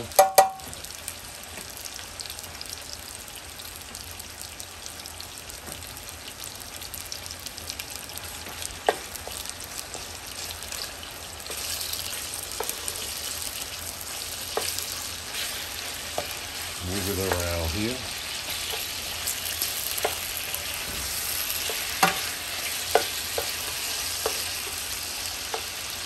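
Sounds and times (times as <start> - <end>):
chicken sizzling in oil: 0.0 - 26.0.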